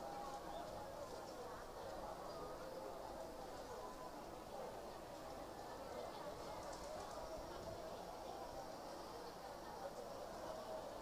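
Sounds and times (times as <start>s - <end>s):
faint murmur of voices: 0.0s - 11.0s.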